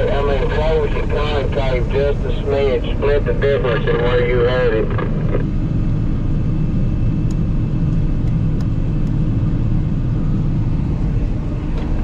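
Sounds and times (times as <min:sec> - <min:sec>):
combine harvester rumbling: 0:00.0 - 0:12.0.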